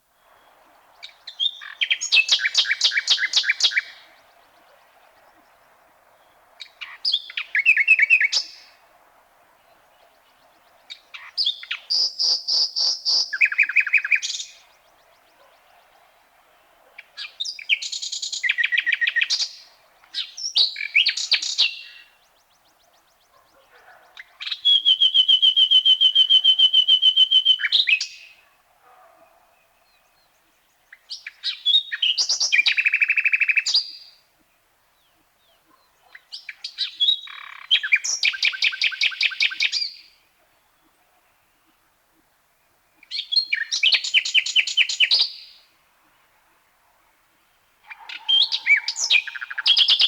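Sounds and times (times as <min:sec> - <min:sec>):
nightingale singing: 0:00.0 - 0:08.9, 0:09.5 - 0:28.6, 0:29.2 - 0:34.3, 0:34.9 - 0:41.8, 0:42.6 - 0:45.8, 0:47.4 - 0:50.0.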